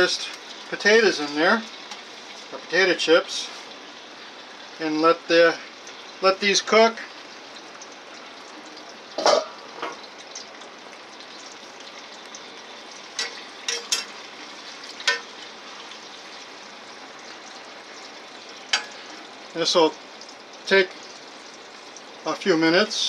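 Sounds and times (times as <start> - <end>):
fries sizzling in oil: 0.0 - 23.0.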